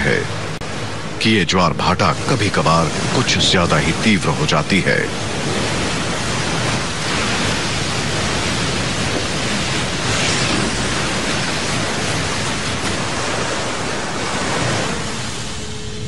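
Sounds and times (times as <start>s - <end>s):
storm waves breaking: 0.0s - 16.0s.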